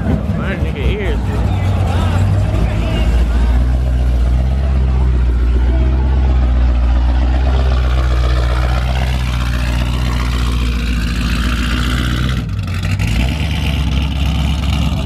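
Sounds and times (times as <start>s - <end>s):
loud car engine and exhaust: 0.0s - 15.0s.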